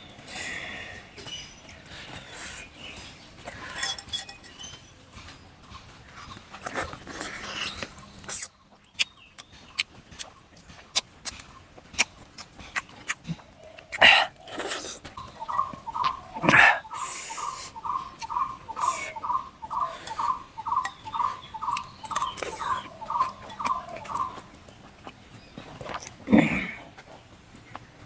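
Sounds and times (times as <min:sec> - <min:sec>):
person chewing meat: 0:01.6 - 0:27.9.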